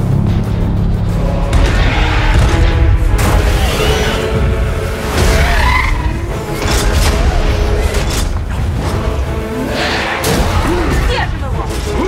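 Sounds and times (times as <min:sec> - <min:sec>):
action film score: 0:00.0 - 0:12.0.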